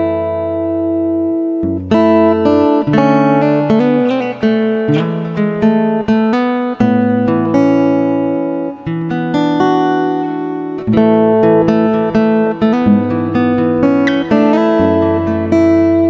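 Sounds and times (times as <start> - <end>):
plucked guitar notes: 0.0 - 16.0.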